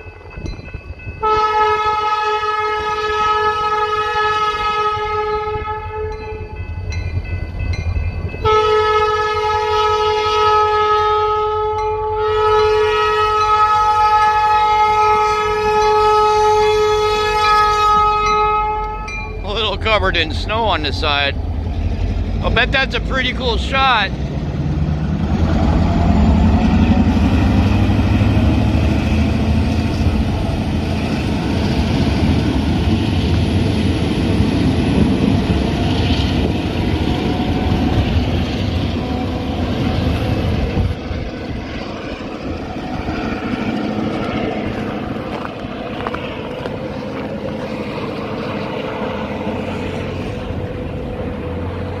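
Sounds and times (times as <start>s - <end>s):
diesel locomotive engine rumble: 0.0s - 52.0s.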